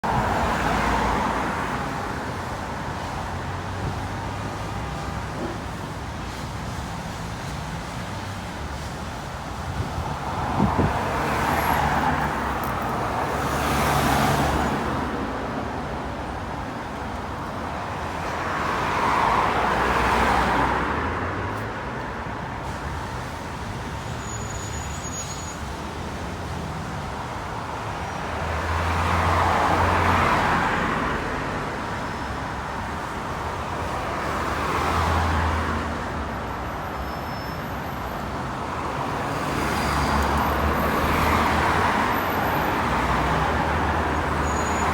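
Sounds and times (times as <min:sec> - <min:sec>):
cars and buses passing: 0:00.0 - 0:44.9.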